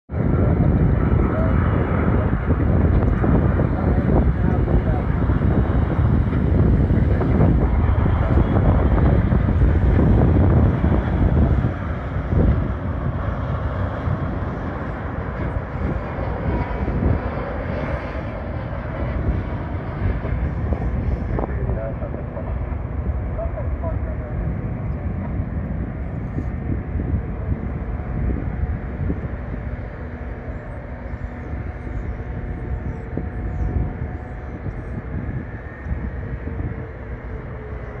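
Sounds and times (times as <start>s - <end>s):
jet engine rumble: 0.1s - 38.0s.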